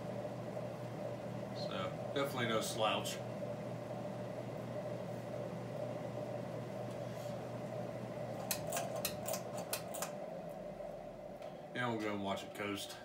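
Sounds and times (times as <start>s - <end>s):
ceiling fan motor hum: 0.0s - 13.0s
fan blade air noise: 0.0s - 13.0s.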